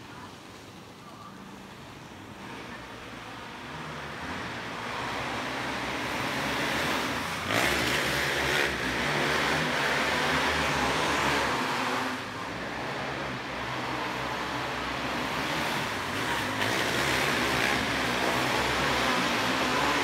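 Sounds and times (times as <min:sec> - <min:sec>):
kart engines racing: 0:01.2 - 0:20.0.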